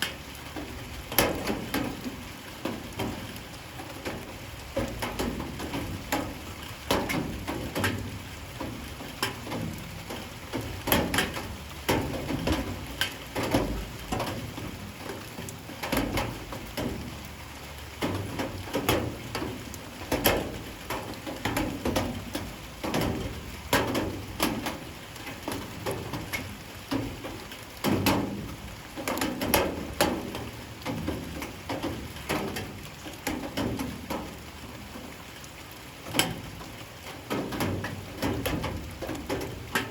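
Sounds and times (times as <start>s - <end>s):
raindrops hitting a hard surface: 0.0s - 39.9s.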